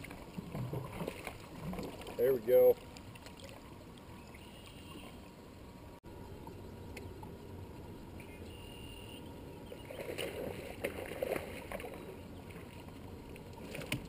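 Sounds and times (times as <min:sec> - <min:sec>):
water lapping around boat: 0:00.0 - 0:14.0.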